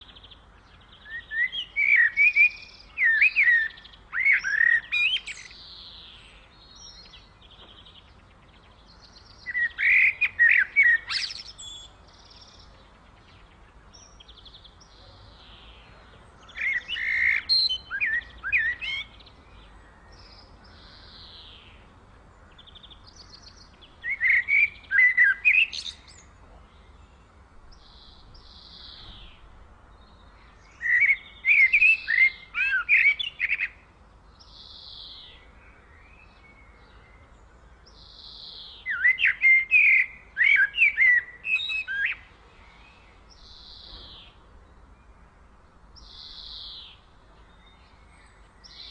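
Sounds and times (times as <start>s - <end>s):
songbird warbling: 0.0s - 26.3s, 30.4s - 37.0s, 37.9s - 44.4s.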